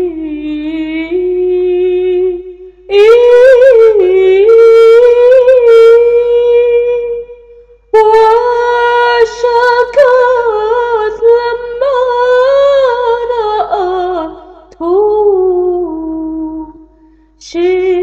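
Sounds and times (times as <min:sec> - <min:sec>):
woman singing a hymn: 0:00.0 - 0:07.2, 0:08.0 - 0:16.8, 0:17.4 - 0:18.0.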